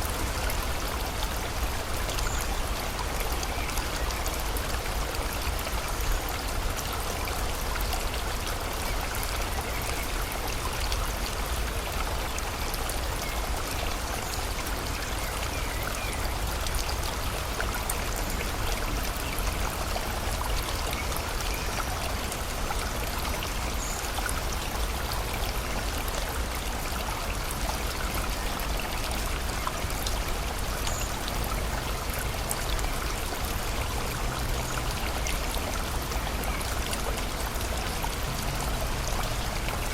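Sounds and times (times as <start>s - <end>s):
flowing river: 0.0s - 39.9s
rain pattering: 0.0s - 39.9s.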